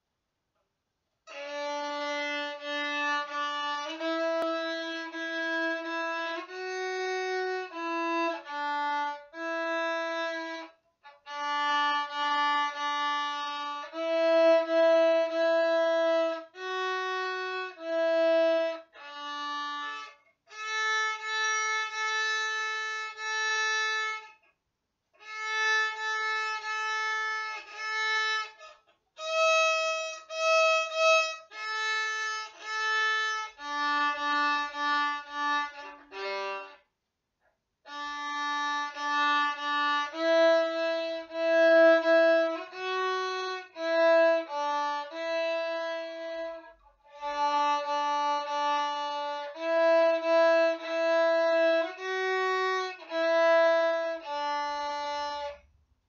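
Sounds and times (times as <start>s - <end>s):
solo violin melody: 1.3s - 24.4s, 25.2s - 36.9s, 37.8s - 55.7s.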